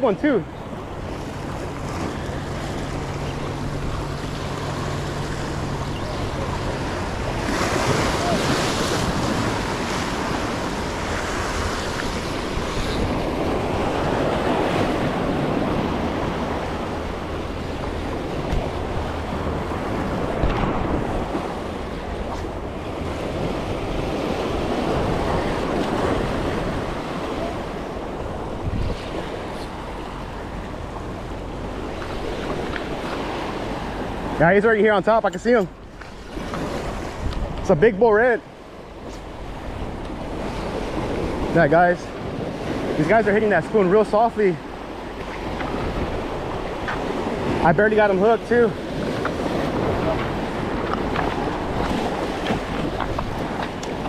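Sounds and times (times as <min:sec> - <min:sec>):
wind buffeting microphone: 0:00.0 - 0:38.2, 0:38.8 - 0:54.0
sea waves washing in: 0:00.0 - 0:54.0.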